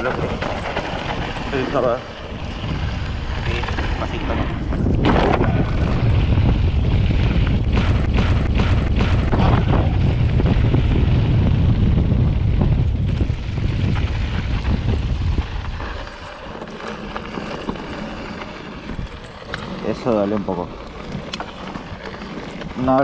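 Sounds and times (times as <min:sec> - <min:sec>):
mountain bike rattling on rough trail: 0:00.0 - 0:23.0
wind rushing over microphone: 0:00.0 - 0:23.0.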